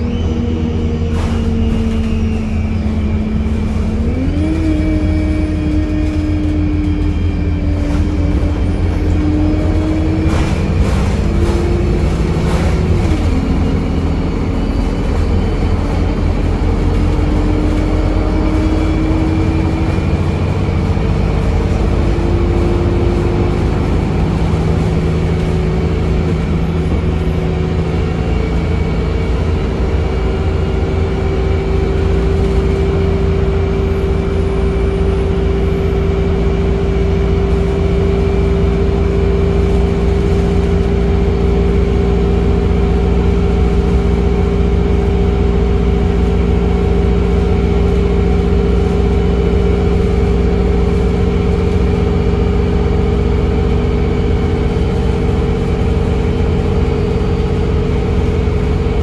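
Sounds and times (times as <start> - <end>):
bus diesel engine rumble: 0.0 - 59.0
gearbox whine: 0.0 - 59.0.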